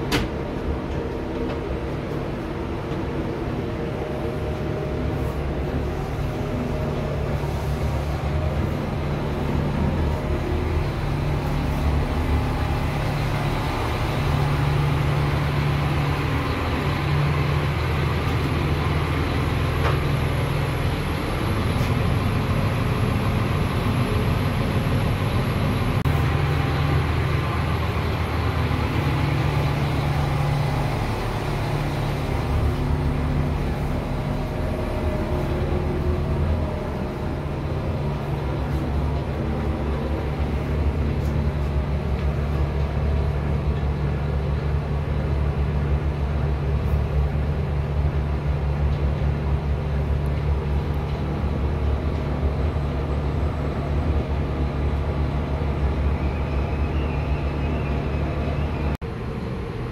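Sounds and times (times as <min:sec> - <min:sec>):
diesel engine idling hum: 0:00.0 - 0:59.9.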